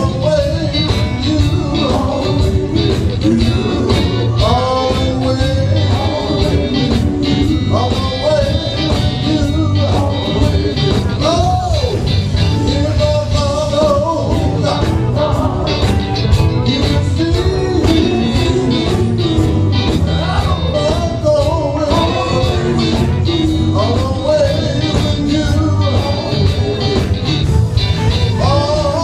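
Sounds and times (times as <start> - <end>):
bending melodic lead line: 0.0 - 29.0
drums and bass beat: 0.0 - 29.0
gospel band playing: 0.0 - 29.0.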